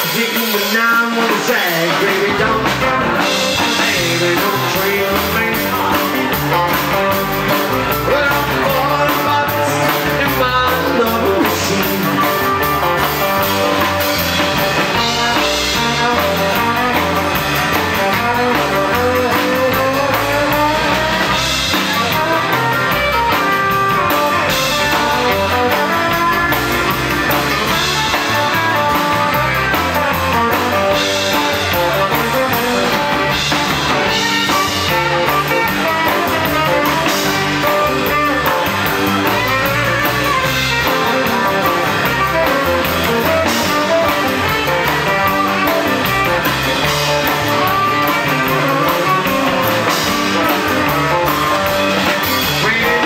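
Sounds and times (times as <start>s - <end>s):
drum kit: 0.0s - 53.0s
electric guitar: 0.0s - 53.0s
upright double bass: 1.5s - 53.0s
saxophone: 1.7s - 53.0s.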